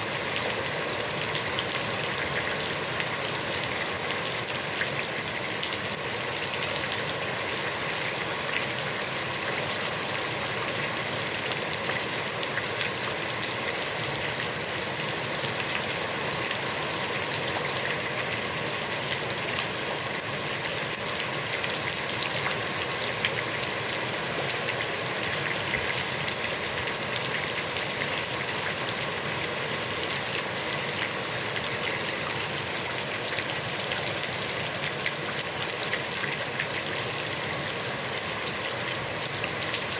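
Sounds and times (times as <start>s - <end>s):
heavy rain pouring onto water: 0.0s - 39.9s.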